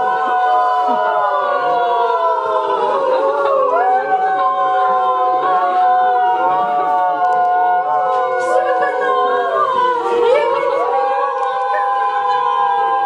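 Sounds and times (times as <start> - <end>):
voices singing in harmony: 0.0 - 13.0.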